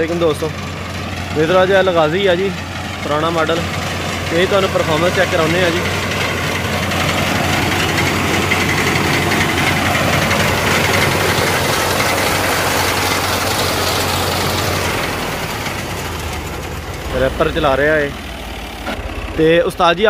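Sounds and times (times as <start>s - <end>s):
reaper machinery noise: 0.0s - 20.0s
tractor engine under load: 0.0s - 20.0s.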